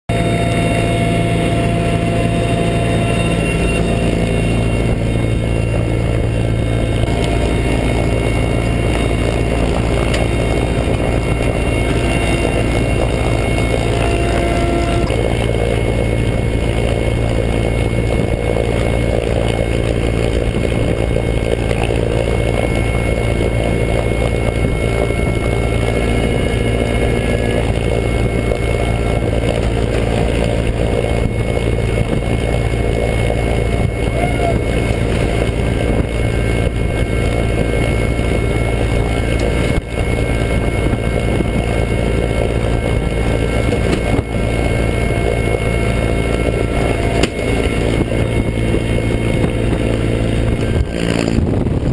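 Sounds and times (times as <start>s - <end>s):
helicopter engine and rotor drone: 0.1s - 51.9s
high whining tones: 0.1s - 51.9s.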